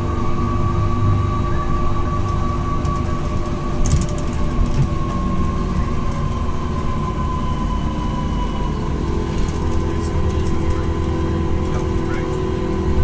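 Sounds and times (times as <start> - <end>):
bus rumble and whine: 0.0 - 13.0.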